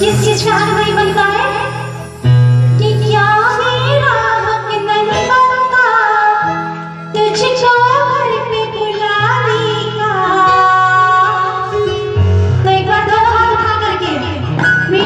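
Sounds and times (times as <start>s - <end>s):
instrumental accompaniment with bass: 0.0s - 15.0s
woman singing into a microphone: 0.0s - 15.0s.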